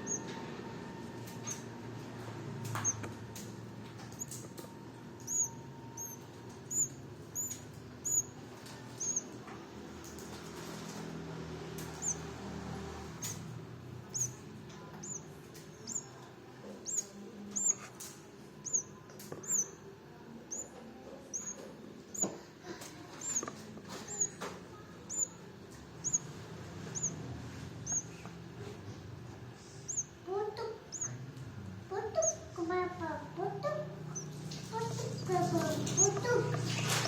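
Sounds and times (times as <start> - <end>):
baby birds chirping: 0.0 - 0.4, 1.0 - 1.8, 2.6 - 10.9, 11.8 - 19.8, 20.4 - 28.5, 29.5 - 31.3, 32.0 - 32.5, 33.5 - 37.0.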